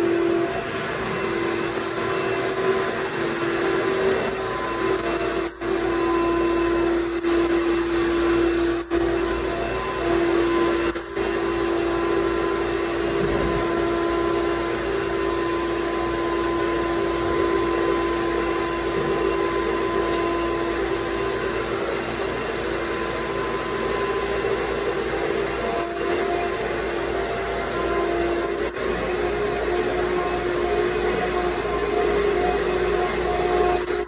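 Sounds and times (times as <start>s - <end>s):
electric blower motor humming: 0.0s - 34.0s.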